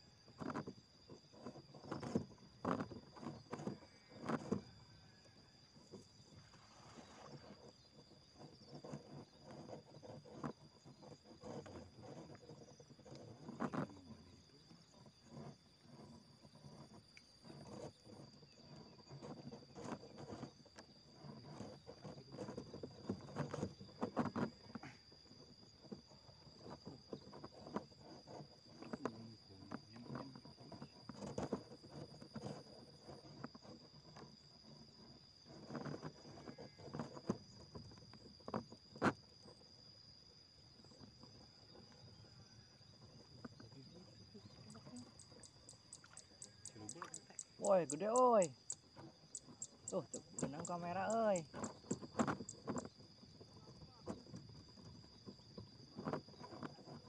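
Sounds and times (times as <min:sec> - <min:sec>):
high-pitched insect call: 0:00.0 - 0:57.0
soft rustles and knocks: 0:00.2 - 0:57.0.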